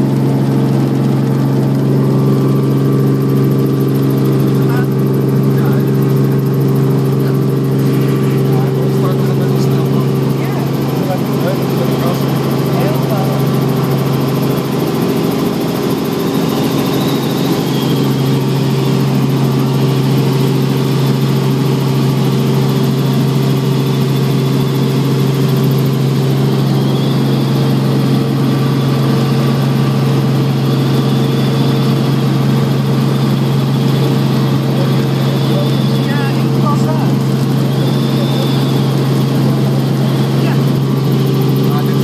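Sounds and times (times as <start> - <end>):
helicopter engine and rotors drone: 0.0 - 42.0.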